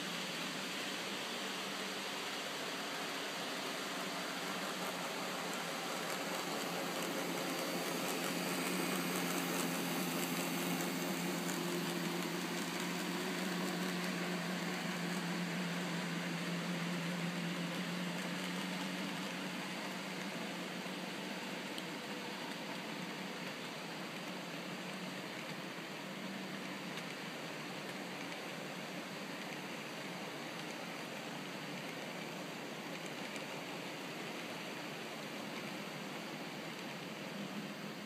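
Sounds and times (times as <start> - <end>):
constant hiss: 0.0 - 38.0
model train motor hum: 0.0 - 38.0.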